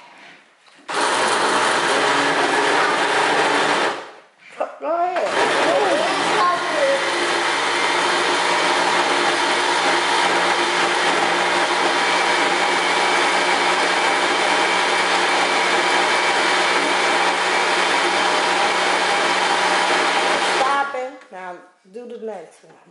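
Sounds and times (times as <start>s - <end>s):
blender motor whirring: 0.9s - 4.1s, 5.2s - 20.9s.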